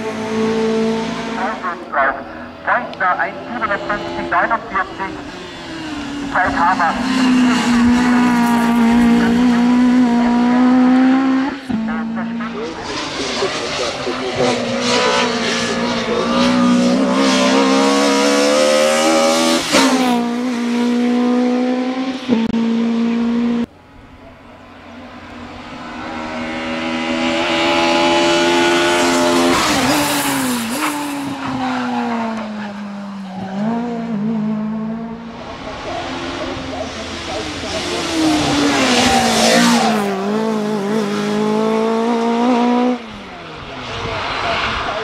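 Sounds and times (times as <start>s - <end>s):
throttle blips on downshifts: 0.0s - 43.6s
race car engine revving: 0.0s - 45.0s.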